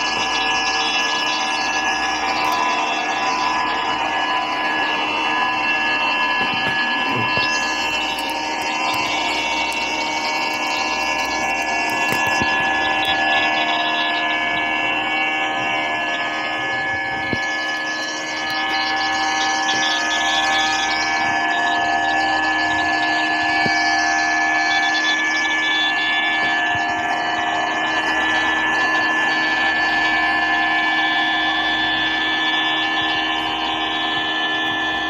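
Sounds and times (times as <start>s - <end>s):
steady whine of held tones: 0.0s - 35.0s.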